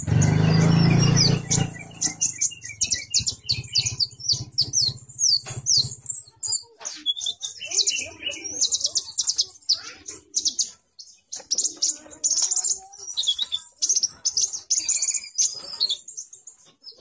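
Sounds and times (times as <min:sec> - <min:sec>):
songbird chirping and trilling: 0:00.0 - 0:17.0.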